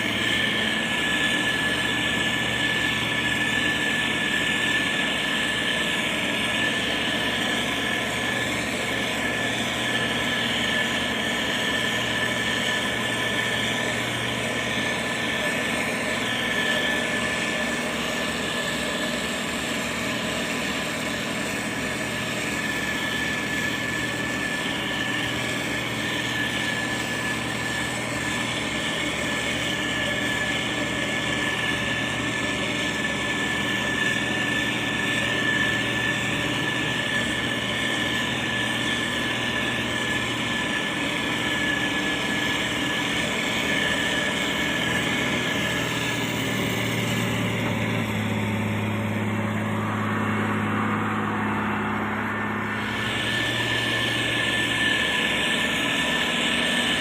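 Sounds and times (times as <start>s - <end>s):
diesel engine running under load: 0.0s - 57.0s
high whine: 0.0s - 57.0s.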